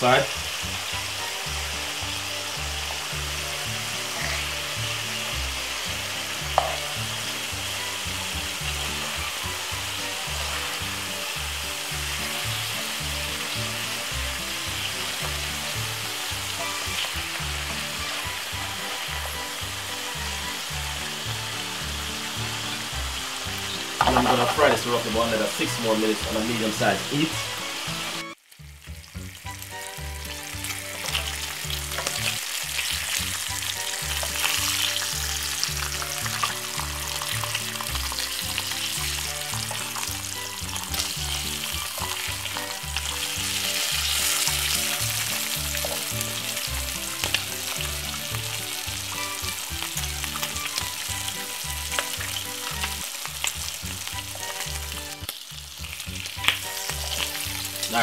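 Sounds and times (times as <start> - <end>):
background music with bass line: 0.0 - 58.0
bacon sizzling in a frying pan: 0.0 - 58.0.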